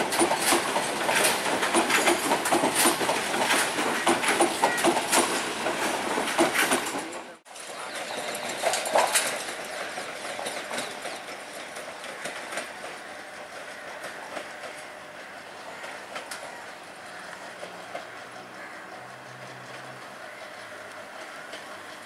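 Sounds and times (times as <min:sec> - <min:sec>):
train wheels knocking over rail joints: 0:00.0 - 0:22.0.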